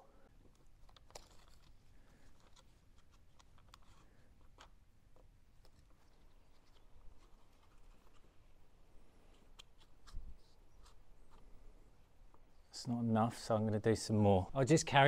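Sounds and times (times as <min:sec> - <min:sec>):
faint plastic clicks and scrapes: 0:00.3 - 0:12.8.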